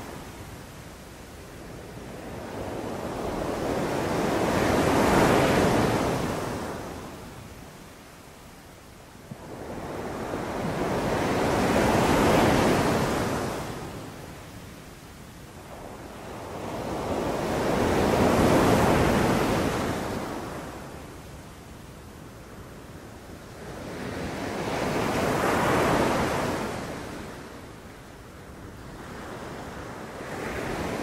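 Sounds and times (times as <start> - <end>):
sea waves breaking on a beach: 0.0 - 31.0.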